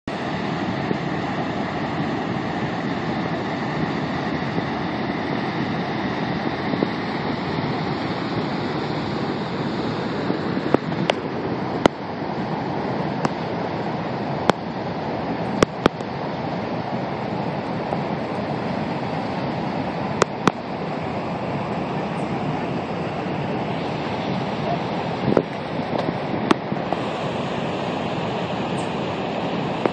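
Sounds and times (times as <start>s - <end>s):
waterfall rushing: 0.1s - 29.9s.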